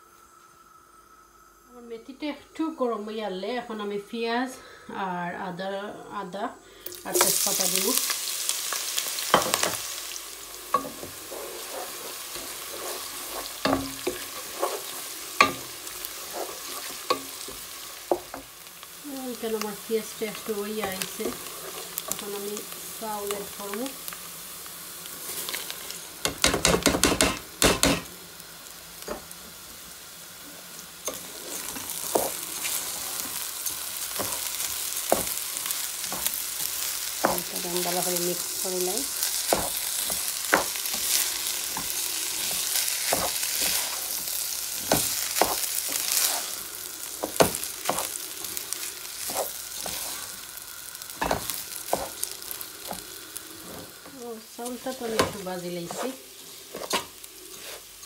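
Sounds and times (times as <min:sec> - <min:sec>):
rice sizzling in ghee: 0:00.0 - 0:58.0.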